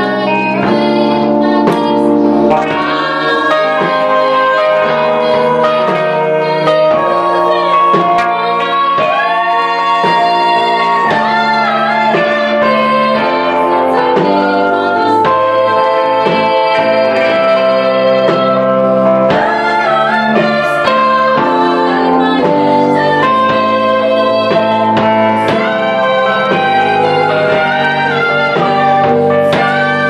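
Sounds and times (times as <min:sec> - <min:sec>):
instrumental accompaniment: 0:00.0 - 0:30.0
women singing in harmony: 0:00.0 - 0:30.0.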